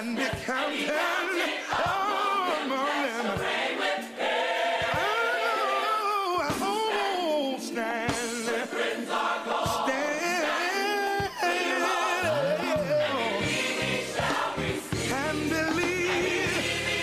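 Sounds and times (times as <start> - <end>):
gospel singing voices: 0.0 - 17.0.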